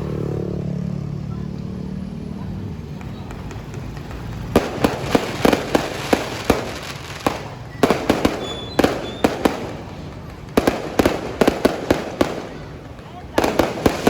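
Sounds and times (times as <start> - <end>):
fireworks bangs: 2.5 - 14.0.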